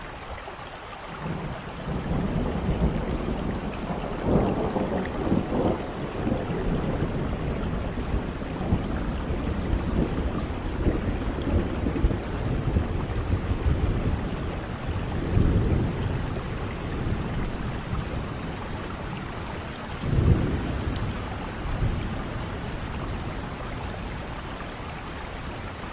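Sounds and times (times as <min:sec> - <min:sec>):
steady rain: 0:00.0 - 0:25.9
rolling thunder: 0:01.2 - 0:25.6.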